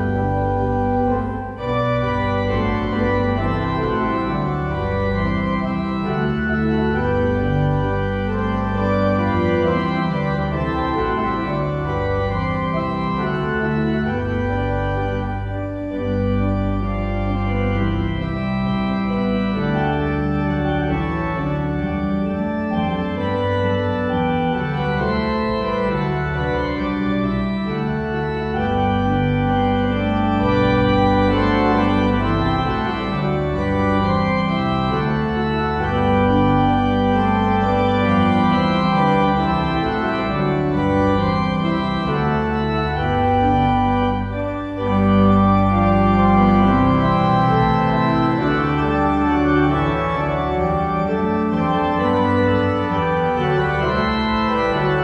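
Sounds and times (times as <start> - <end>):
organ music: 0.0 - 55.0.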